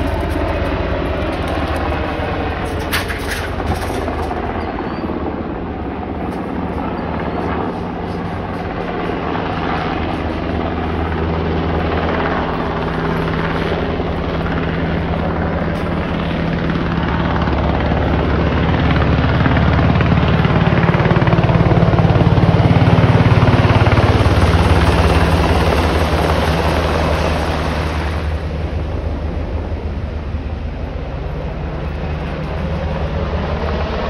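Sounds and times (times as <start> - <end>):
helicopter rotor thudding: 0.0 - 34.0.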